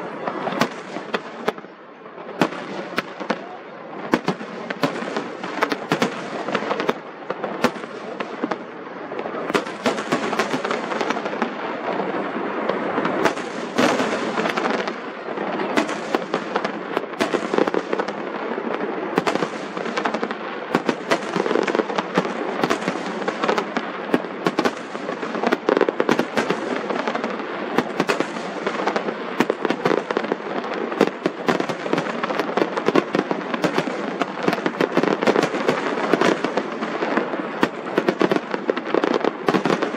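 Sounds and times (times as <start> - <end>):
fireworks bangs: 0.0 - 39.9
fireworks crackle: 0.0 - 39.9.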